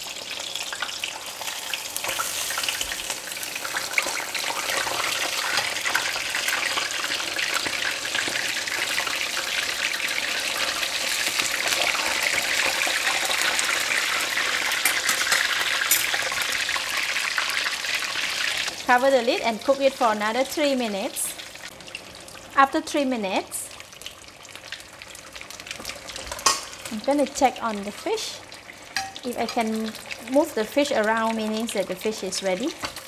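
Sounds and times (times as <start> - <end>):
fish deep-frying in oil: 0.0 - 33.0.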